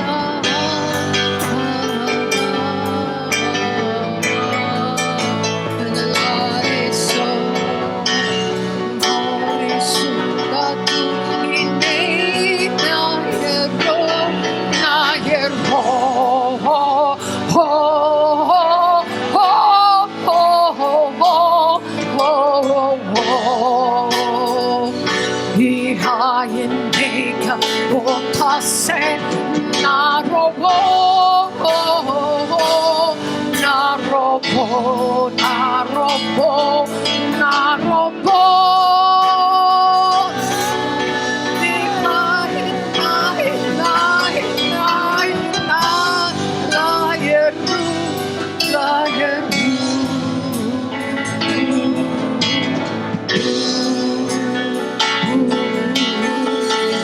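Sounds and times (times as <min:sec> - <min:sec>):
person singing long notes: 0:00.0 - 0:57.0
sustained instrumental backing: 0:00.0 - 0:57.0.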